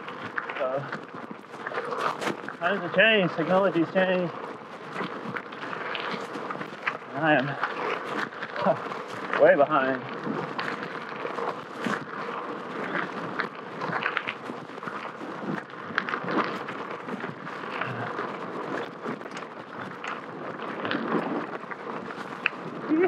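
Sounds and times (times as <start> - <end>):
bike clicking and rattling: 0.0 - 23.0
bike tyres crunching over dirt: 0.0 - 23.0.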